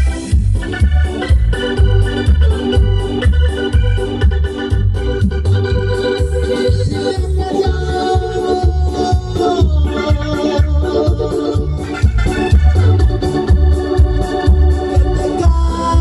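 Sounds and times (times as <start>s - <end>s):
organ-toned keyboard melody: 0.0s - 16.0s
pulsing bass beat: 0.0s - 16.0s.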